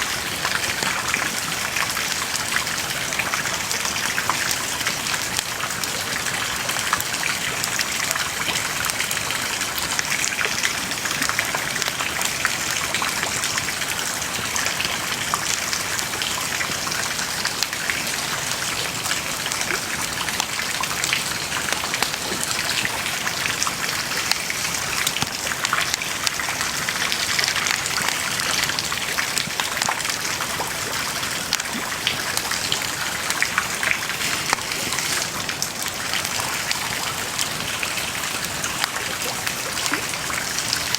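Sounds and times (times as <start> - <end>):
bonfire crackling and hissing: 0.0 - 40.9.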